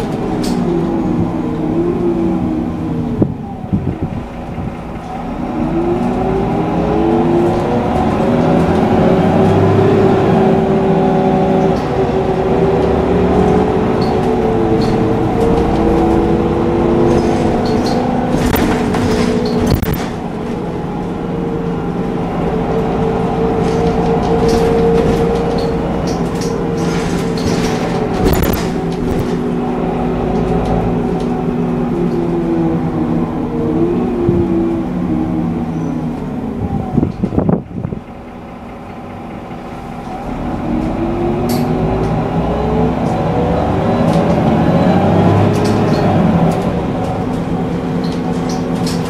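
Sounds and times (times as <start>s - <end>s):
bus engine hum and whine: 0.0s - 49.0s.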